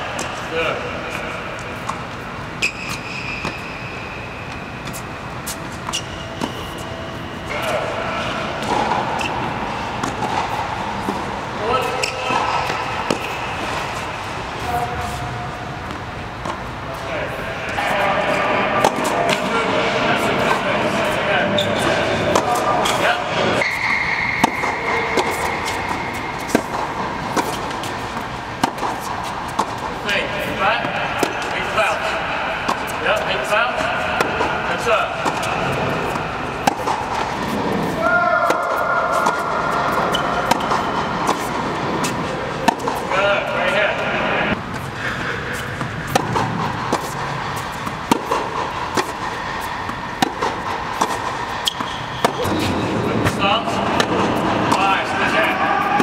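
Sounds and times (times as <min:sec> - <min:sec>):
steady background hiss: 0:00.0 - 0:56.0
steady background noise: 0:00.0 - 0:56.0
tennis racket strikes: 0:00.2 - 0:17.0, 0:17.6 - 0:56.0
tennis ball bounces: 0:01.1 - 0:06.9, 0:07.5 - 0:14.6, 0:18.7 - 0:30.2, 0:30.8 - 0:56.0.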